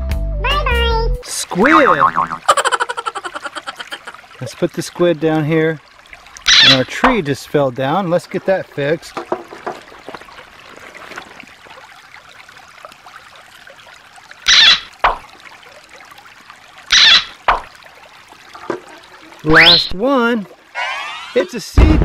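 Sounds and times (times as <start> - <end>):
creek water trickling over rocks: 1.2 - 21.8.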